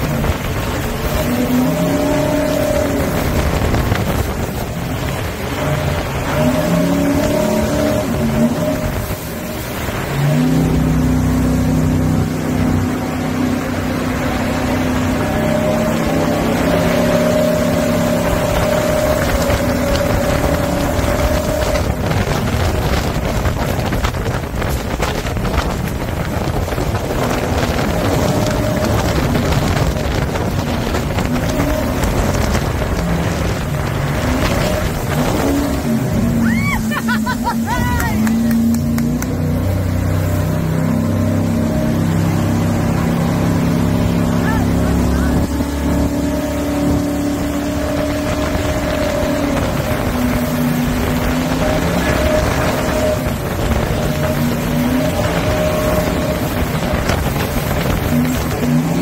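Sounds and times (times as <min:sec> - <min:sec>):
boat engine running: 0:00.0 - 0:59.0
water noise: 0:00.0 - 0:59.0
wind buffeting microphone: 0:00.0 - 0:59.0.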